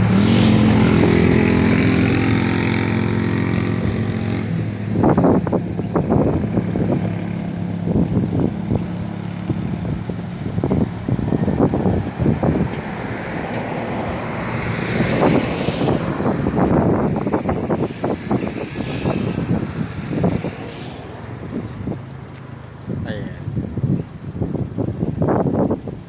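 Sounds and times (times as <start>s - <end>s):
vehicle engine hum: 0.0s - 26.0s
wind buffeting microphone: 0.0s - 26.0s.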